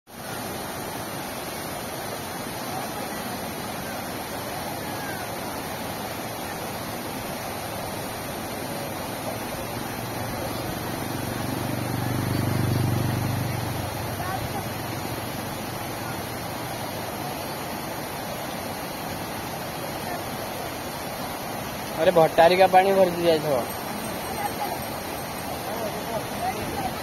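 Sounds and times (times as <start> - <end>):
water rushing over weir: 0.1 - 27.0.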